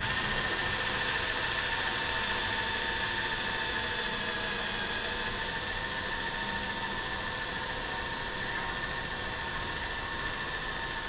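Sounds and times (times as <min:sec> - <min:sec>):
cordless drill boring wood: 0:00.0 - 0:09.4.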